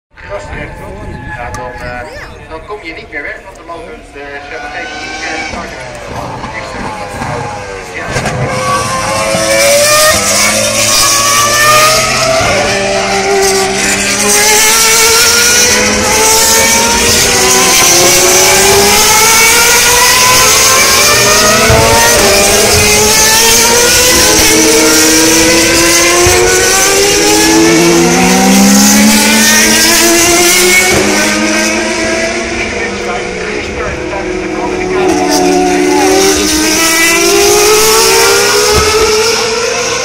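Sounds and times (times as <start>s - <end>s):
race cars accelerating past: 3.8s - 40.0s.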